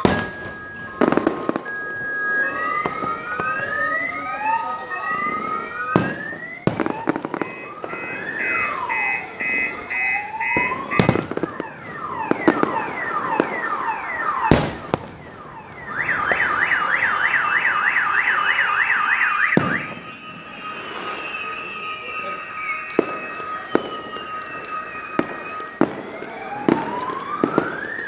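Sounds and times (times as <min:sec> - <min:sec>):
car alarms: 0:00.0 - 0:28.0
fireworks banging: 0:00.0 - 0:28.0.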